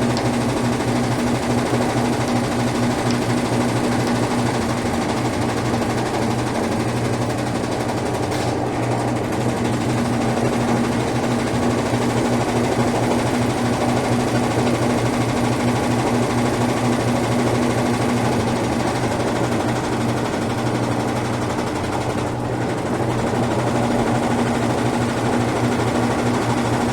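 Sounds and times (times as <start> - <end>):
washing machine spinning: 0.0 - 26.9.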